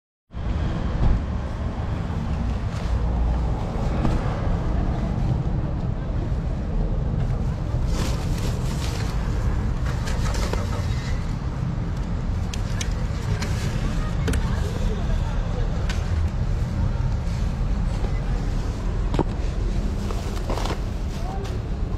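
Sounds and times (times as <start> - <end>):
low rumbling background noise: 0.4 - 21.9.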